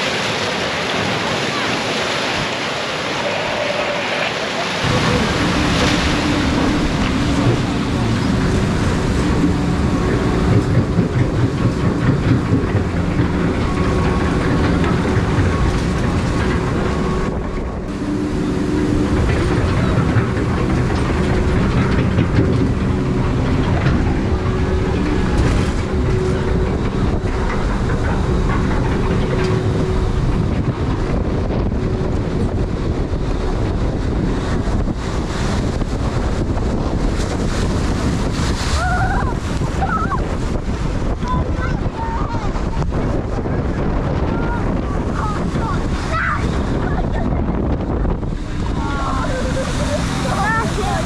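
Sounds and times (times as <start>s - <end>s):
lift conveyor rumble and rattle: 0.0s - 51.0s.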